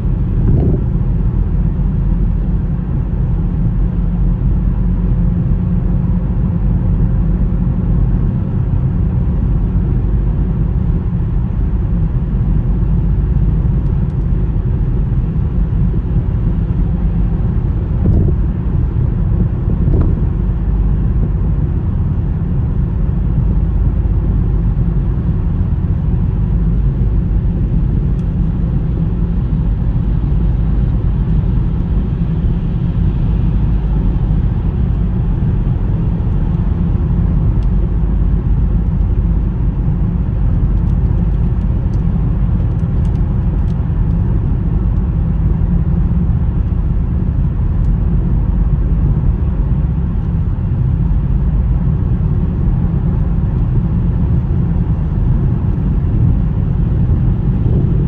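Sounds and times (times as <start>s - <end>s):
car engine and tyre rumble on snow: 0.0s - 58.0s.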